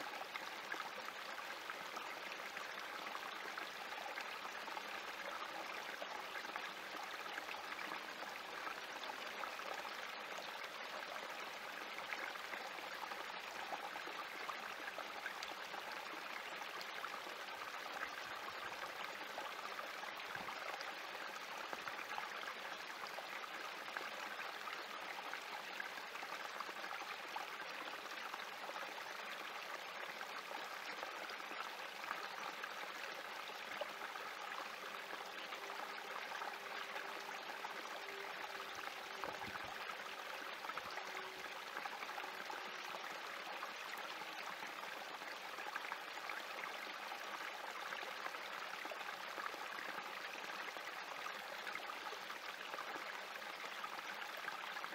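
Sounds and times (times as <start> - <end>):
creek trickling over rocks: 0.0 - 54.9.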